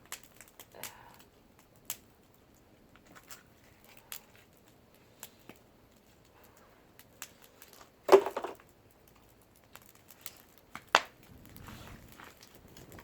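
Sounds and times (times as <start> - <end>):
faint wood fire crackling: 0.0 - 13.0
sharp fire pops: 0.0 - 13.0.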